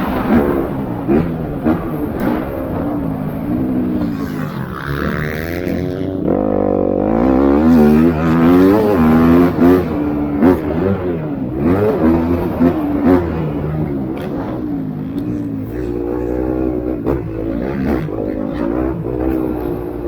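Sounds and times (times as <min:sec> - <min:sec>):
motocross bike engines revving: 0:00.0 - 0:20.0
sharp throttle blips: 0:00.0 - 0:20.0.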